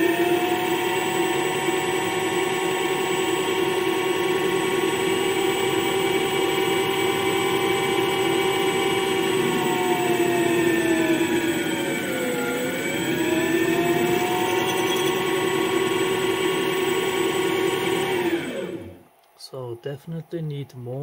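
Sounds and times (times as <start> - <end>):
drill bit boring into workpiece: 0.0 - 18.8
lathe spindle motor whining: 0.0 - 19.1.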